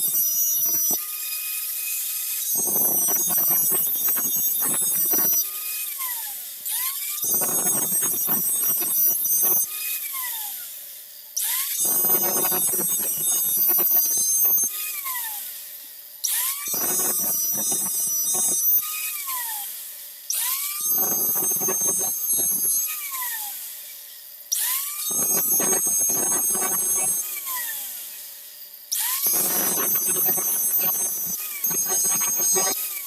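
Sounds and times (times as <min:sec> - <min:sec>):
electric grinder on metal: 0:00.0 - 0:33.0.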